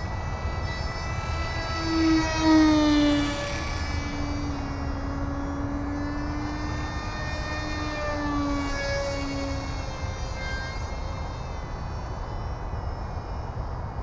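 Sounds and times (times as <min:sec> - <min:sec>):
electric motor and propeller whining: 0:00.0 - 0:14.0.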